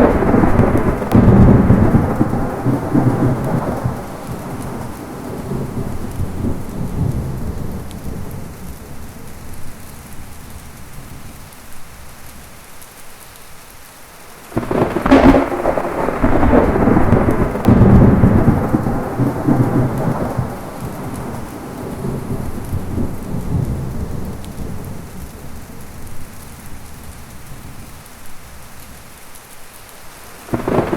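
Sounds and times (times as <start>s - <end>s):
close thunderclap: 0.0s - 11.5s, 14.6s - 29.1s, 30.4s - 30.9s
distant thunder rumble: 0.0s - 12.6s, 14.6s - 29.2s, 30.4s - 30.9s
heavy rain hiss: 0.0s - 30.9s.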